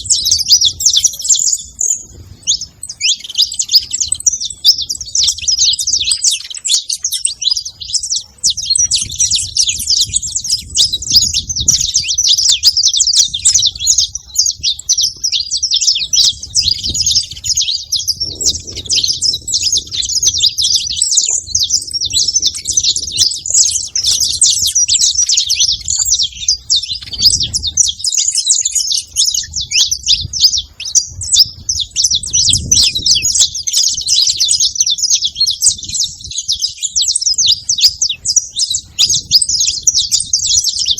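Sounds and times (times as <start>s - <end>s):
finch singing chirps and trills: 0.0s - 40.9s.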